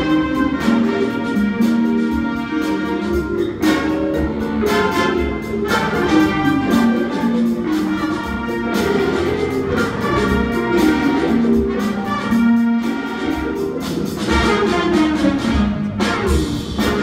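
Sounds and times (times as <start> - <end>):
big band playing funk: 0.0 - 17.0
brass and saxophone lines: 0.0 - 17.0.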